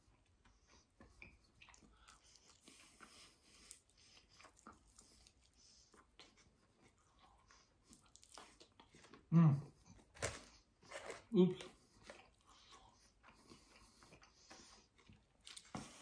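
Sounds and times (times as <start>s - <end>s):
chewing fried chicken: 0.0s - 16.0s.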